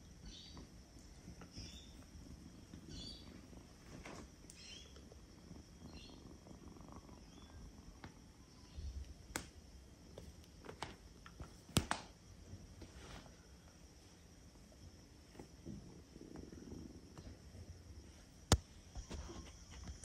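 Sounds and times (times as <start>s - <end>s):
kitten purring: 0.0s - 11.8s, 13.3s - 20.0s.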